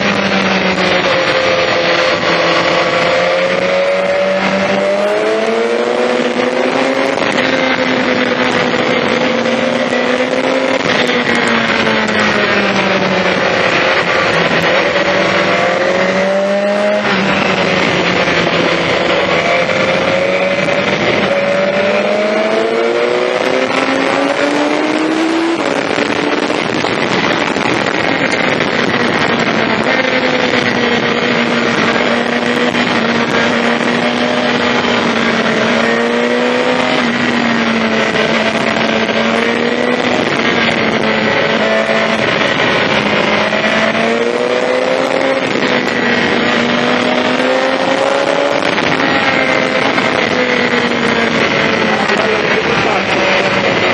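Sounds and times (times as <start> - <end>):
motorcycle engine revving: 0.0 - 53.9
wind rush on microphone: 0.0 - 53.9.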